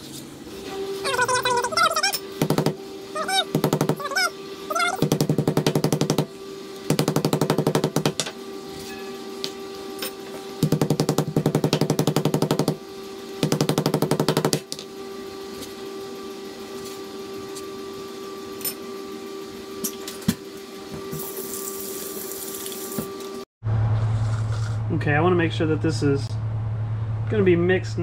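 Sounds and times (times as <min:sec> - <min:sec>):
steady hum: 0:00.0 - 0:22.3, 0:22.9 - 0:28.0.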